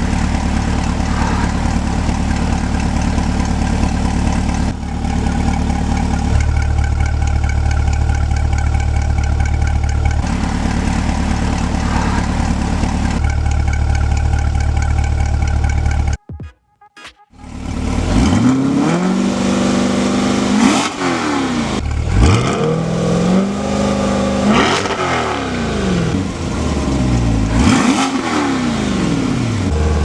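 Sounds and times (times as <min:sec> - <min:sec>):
car engine idling: 0:00.0 - 0:16.2, 0:17.4 - 0:30.0.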